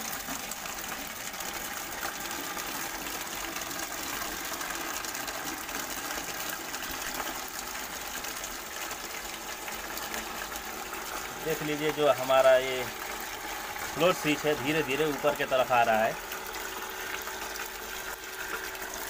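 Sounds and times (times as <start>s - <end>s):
pump motor running: 0.0s - 19.0s
water pouring into plastic bucket: 0.0s - 19.0s.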